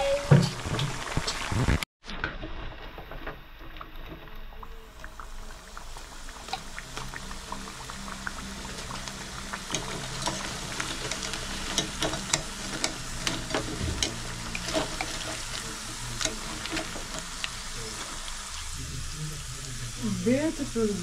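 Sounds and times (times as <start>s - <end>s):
potatoes deep-frying in oil: 0.0s - 21.0s.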